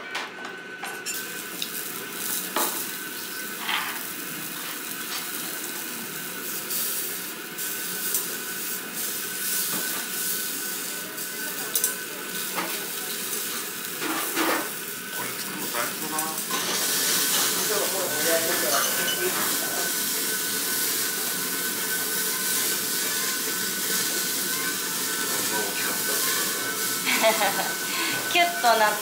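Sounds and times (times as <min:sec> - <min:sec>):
meat sizzling on a grill: 0:01.0 - 0:29.0.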